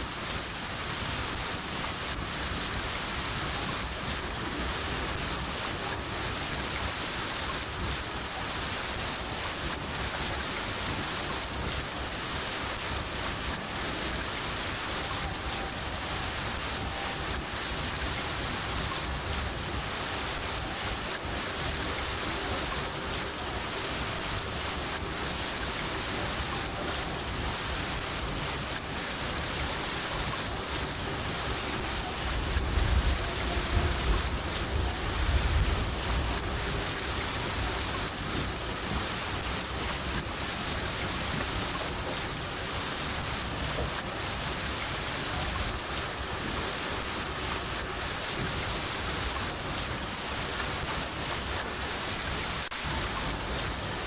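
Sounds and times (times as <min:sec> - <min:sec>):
cricket chirping: 0:00.0 - 0:54.0
rain falling: 0:00.0 - 0:54.0.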